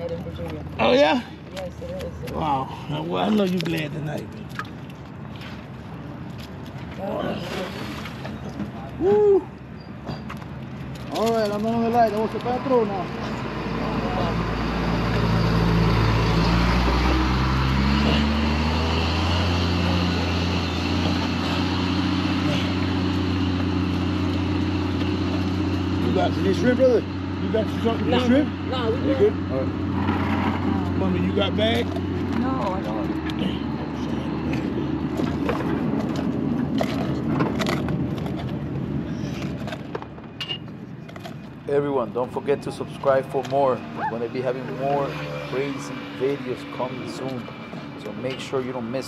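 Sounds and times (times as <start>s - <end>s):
road traffic rumble: 0.0s - 49.0s
vehicle engine humming: 0.0s - 49.0s.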